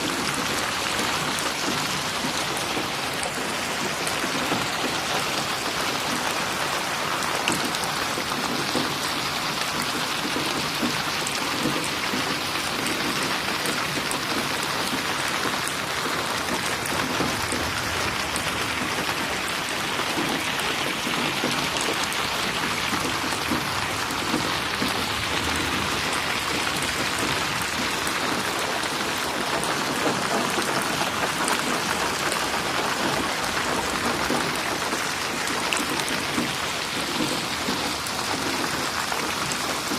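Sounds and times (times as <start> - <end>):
heavy rain splashing: 0.0 - 39.9.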